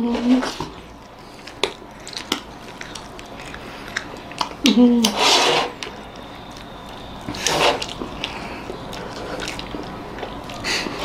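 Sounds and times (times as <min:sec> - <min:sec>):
wet mouth eating sounds: 0:00.1 - 0:11.0.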